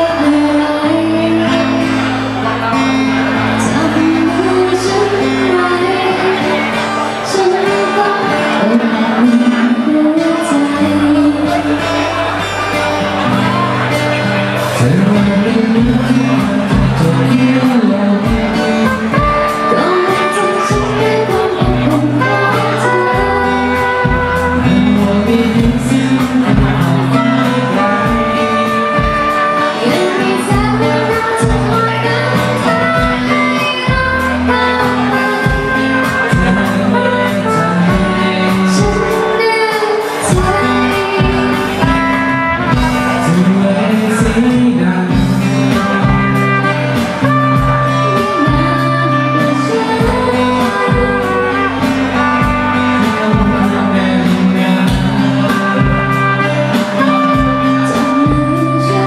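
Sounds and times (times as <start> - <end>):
pop song with lead vocal: 0.0 - 59.0.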